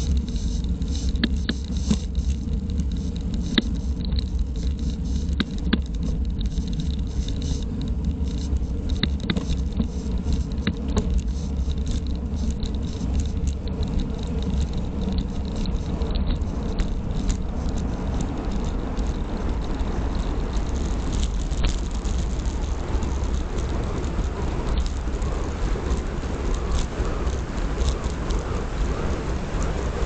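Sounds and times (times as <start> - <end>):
light clicks and rattles: 0.0 - 30.0
tyre noise on asphalt: 0.0 - 30.0
wind rushing over microphone: 0.0 - 30.0.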